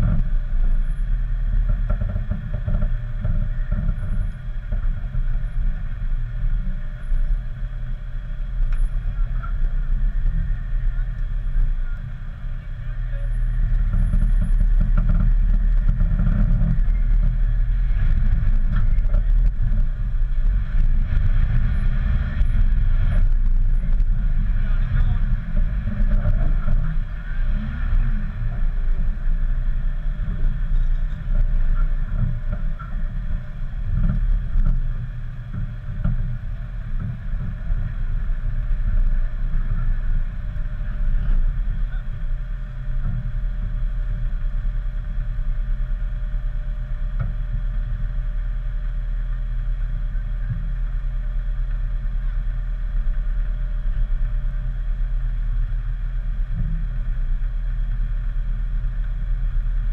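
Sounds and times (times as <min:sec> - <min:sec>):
car engine low rumble: 0:00.0 - 0:59.9.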